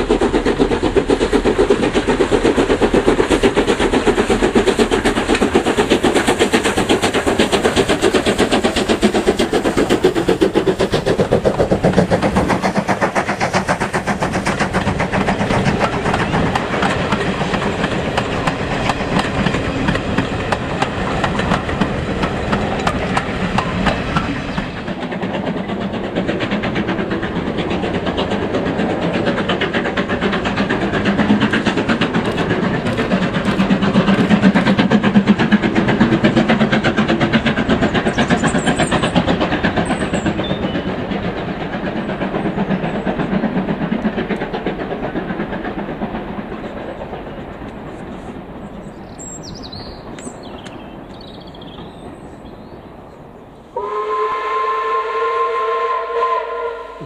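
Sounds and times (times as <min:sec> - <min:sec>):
steam locomotive exhaust beats: 0:00.0 - 0:57.0
train coaches rolling on rails: 0:00.0 - 0:57.0.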